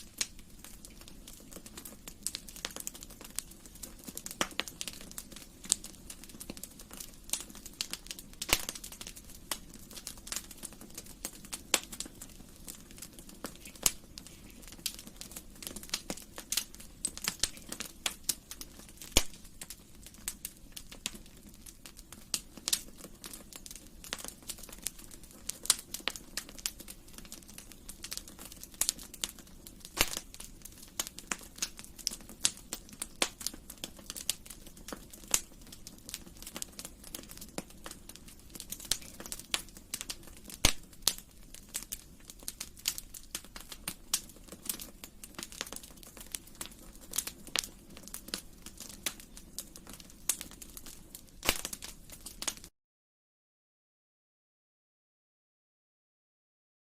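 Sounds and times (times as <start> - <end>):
low hiss of burning: 0.0 - 52.7
wood fire crackling: 0.0 - 52.7.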